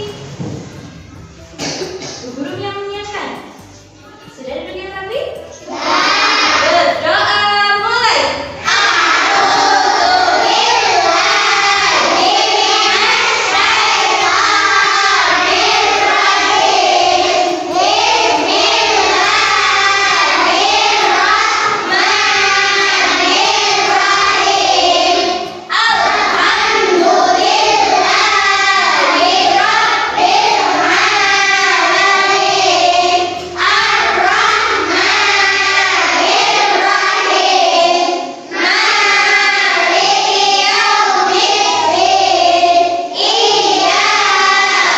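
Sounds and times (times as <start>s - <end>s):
children singing together: 0.0s - 2.2s, 5.5s - 7.4s, 8.4s - 44.9s.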